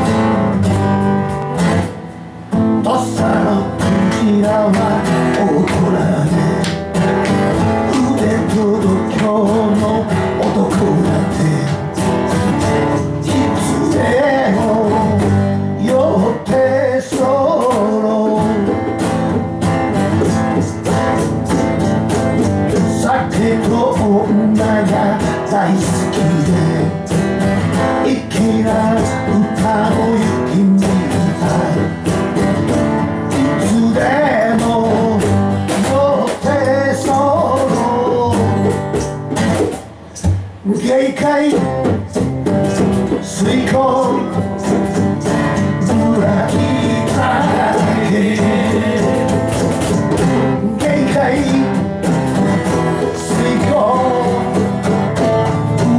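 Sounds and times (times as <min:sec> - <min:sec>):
strummed acoustic guitar: 0:00.0 - 0:55.9
man singing: 0:02.7 - 0:19.4, 0:22.4 - 0:39.0, 0:40.6 - 0:55.9.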